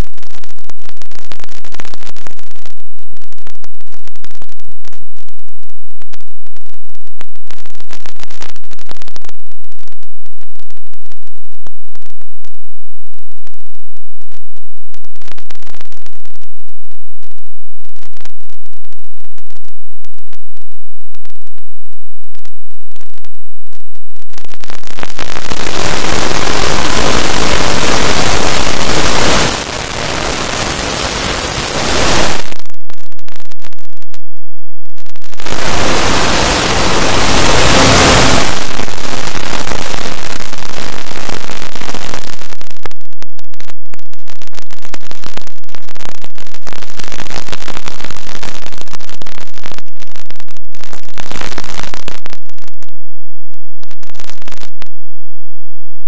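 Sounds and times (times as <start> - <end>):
harsh distorted static noise: 0.0 - 55.0.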